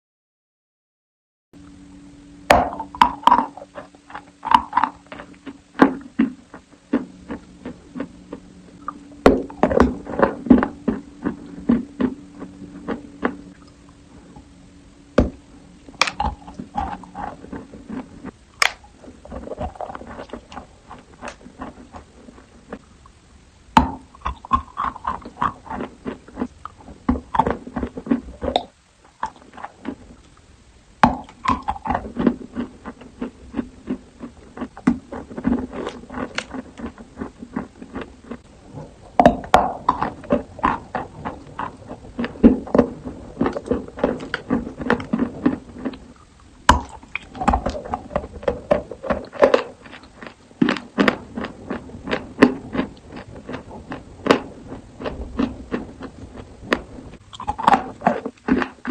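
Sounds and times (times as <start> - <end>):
faint low hum: 1.6 - 58.9
chalk crunching while chewing: 2.7 - 14.4, 15.2 - 22.9, 23.8 - 30.4, 31.0 - 58.9.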